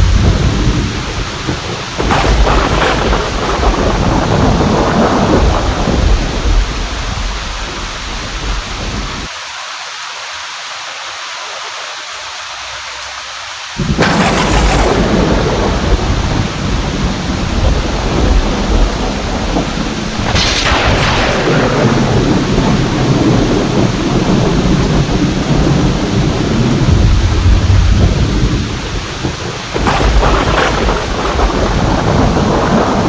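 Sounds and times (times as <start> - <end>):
loud thunderclap: 0.0 - 9.3, 13.8 - 33.0
rolling thunder: 0.0 - 9.3, 13.8 - 33.0
heavy rain: 0.0 - 33.0.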